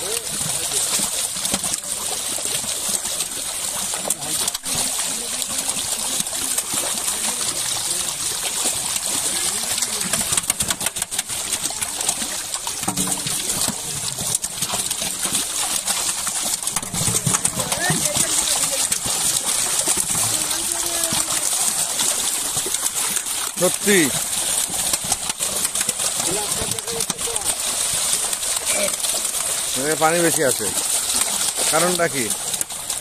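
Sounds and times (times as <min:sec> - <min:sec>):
fish thrashing and splashing: 0:00.0 - 0:33.0
water slaps: 0:00.0 - 0:33.0.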